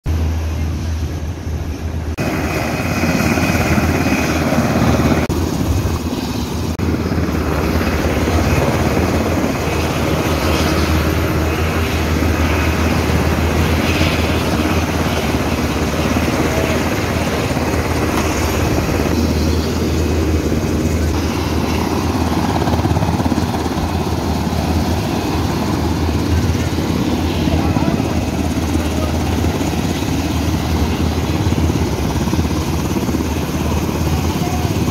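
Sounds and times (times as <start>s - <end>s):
helicopter drone: 0.1s - 34.9s.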